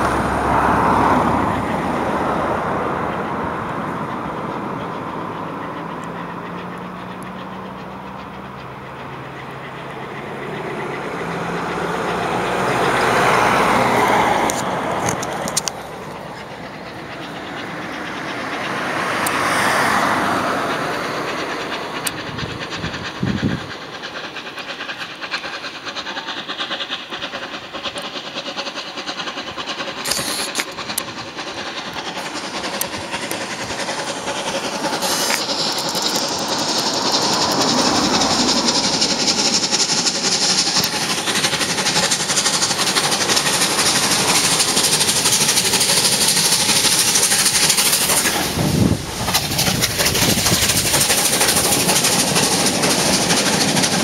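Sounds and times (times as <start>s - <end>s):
carriages clicking over rail joints: 0.0s - 54.0s
steam locomotive passing: 0.0s - 54.0s.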